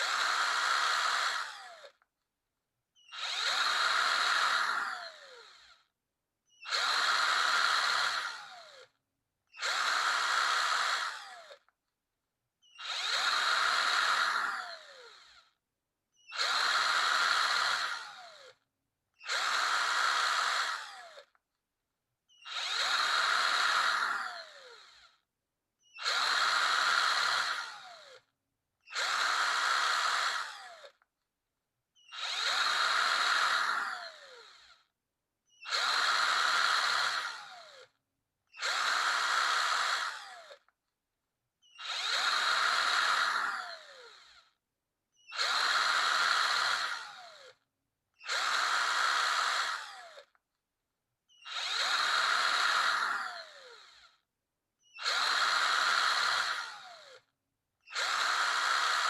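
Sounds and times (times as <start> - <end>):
power drill whining: 0.0 - 2.1, 3.0 - 5.9, 6.5 - 11.8, 12.6 - 21.4, 22.3 - 31.1, 31.9 - 40.8, 41.6 - 47.6, 48.2 - 50.4, 51.3 - 59.0.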